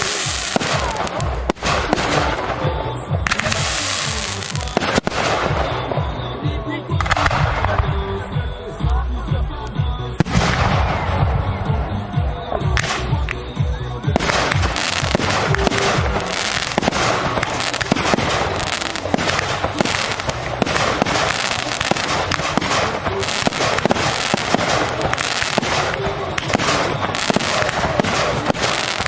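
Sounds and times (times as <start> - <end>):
fireworks deep booms: 0.0 - 8.7, 9.4 - 29.0
fireworks bangs and crackling: 0.0 - 29.0.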